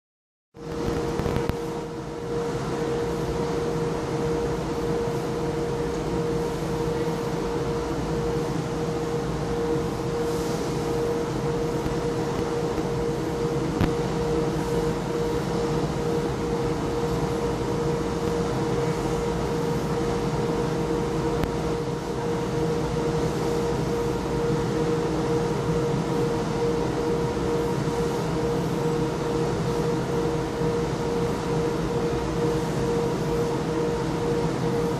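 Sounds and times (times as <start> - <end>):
industrial machinery droning: 0.6 - 34.9.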